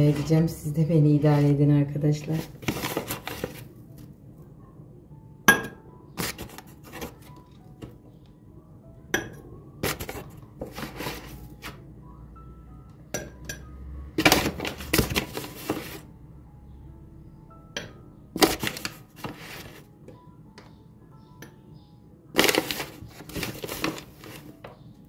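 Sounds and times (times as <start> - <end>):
soft background music: 0.0 - 25.0.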